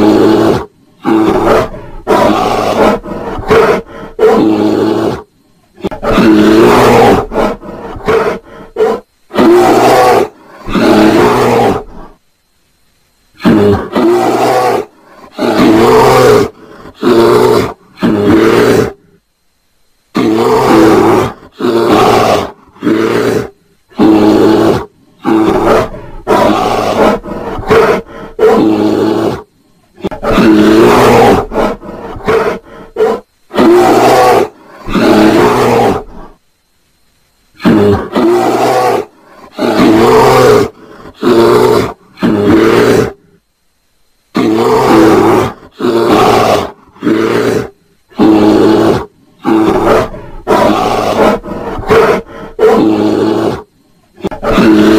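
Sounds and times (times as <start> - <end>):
bear roaring and growling: 0.0 - 12.2, 13.4 - 19.1, 20.1 - 36.4, 37.6 - 43.3, 44.3 - 54.9.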